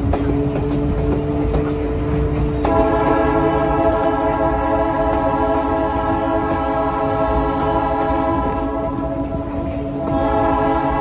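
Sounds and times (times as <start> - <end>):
diesel locomotive horn: 0.0 - 11.0
low rumble of moving train: 0.0 - 11.0.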